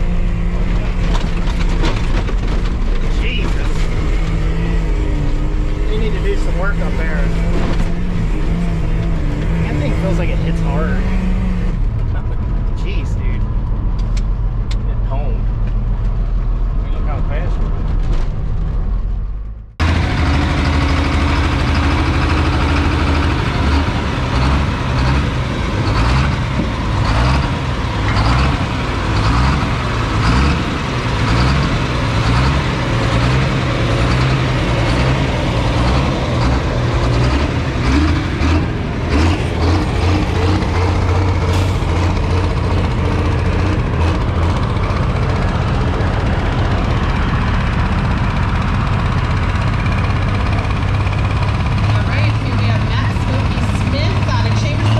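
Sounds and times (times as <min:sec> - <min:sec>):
heavy vehicle engine running: 0:00.0 - 0:54.9.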